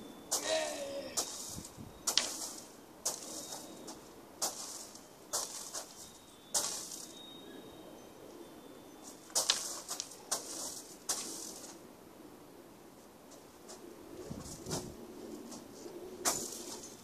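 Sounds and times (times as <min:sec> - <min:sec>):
grass rustling against microphone: 0:00.0 - 0:07.2, 0:09.0 - 0:11.9, 0:12.9 - 0:17.0.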